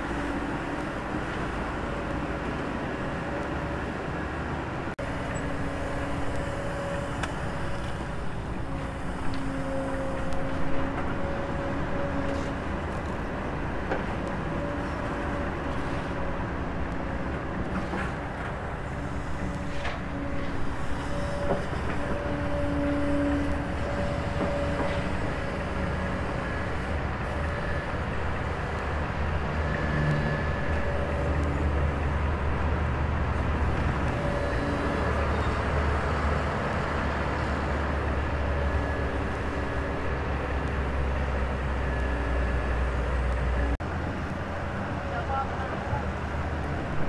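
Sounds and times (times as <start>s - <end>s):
excavator diesel engine drone: 0.0s - 47.0s.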